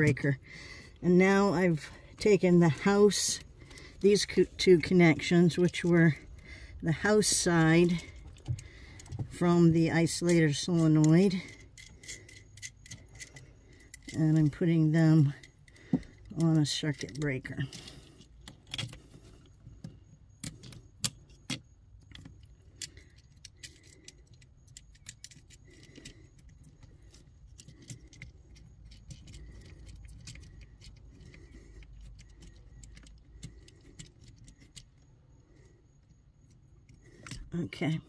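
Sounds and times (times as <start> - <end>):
metal terminals clinking: 0.0 - 35.1.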